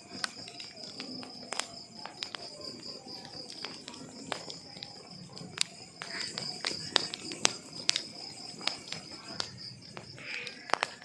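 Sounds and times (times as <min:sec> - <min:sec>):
fire hiss: 0:00.0 - 0:11.0
wood fire popping: 0:00.0 - 0:11.0.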